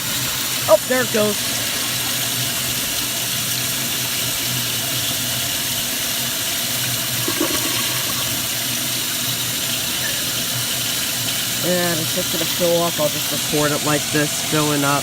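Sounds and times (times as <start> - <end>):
toilet flushing: 0.0 - 15.0.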